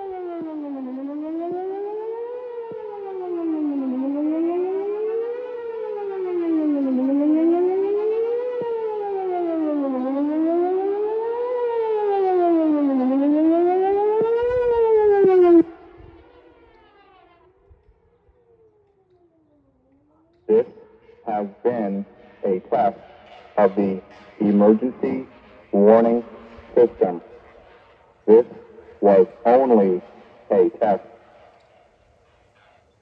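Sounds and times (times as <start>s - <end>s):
distant siren wail: 0.0s - 33.0s
warning siren wailing: 0.0s - 33.0s.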